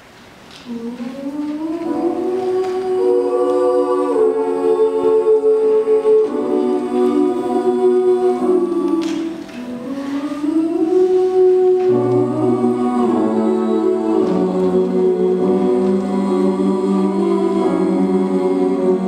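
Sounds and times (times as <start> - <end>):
youth choir singing in harmony: 0.6 - 19.0.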